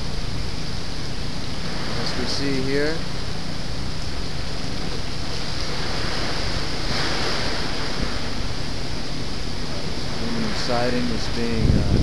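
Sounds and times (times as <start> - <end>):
driving rain: 0.0 - 12.0
hurricane wind: 0.0 - 12.0.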